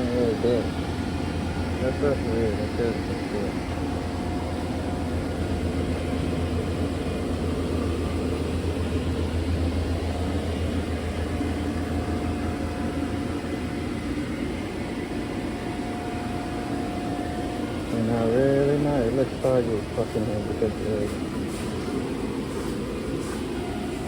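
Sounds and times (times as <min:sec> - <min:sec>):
air compressor humming: 0:00.0 - 0:24.0.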